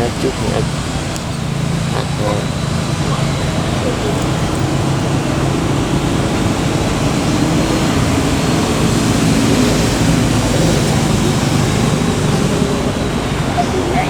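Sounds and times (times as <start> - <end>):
loud rushing noise: 0.0 - 14.0.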